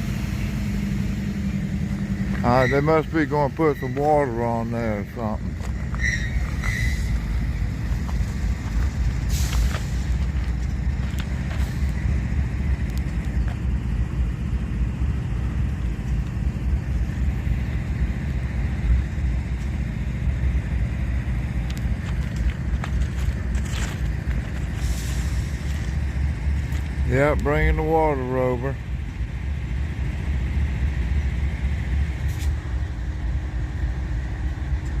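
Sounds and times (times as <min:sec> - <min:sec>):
locomotives idling: 0:00.0 - 0:35.0.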